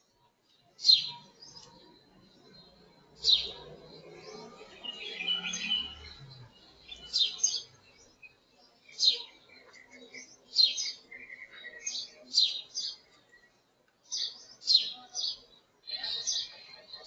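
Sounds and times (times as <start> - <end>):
birds chirping with downward sweep: 0.0 - 17.0
birds twittering: 0.0 - 17.0.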